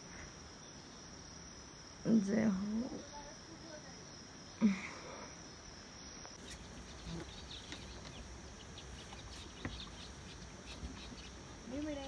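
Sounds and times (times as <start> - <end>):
faint chirps and ticks: 0.1 - 12.0.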